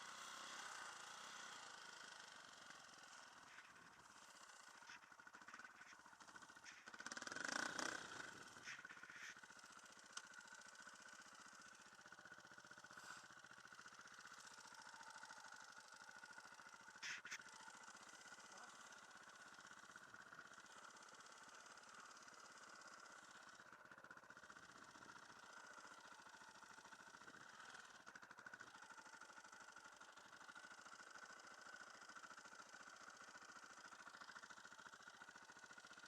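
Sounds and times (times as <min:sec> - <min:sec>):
dirt bike engine running: 0:00.0 - 0:36.0.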